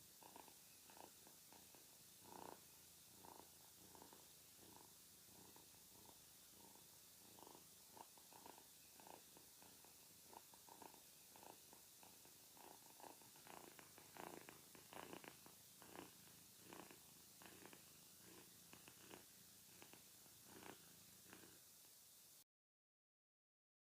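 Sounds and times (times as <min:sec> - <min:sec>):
cat purring: 0:00.0 - 0:22.1
steady hiss: 0:00.0 - 0:22.4.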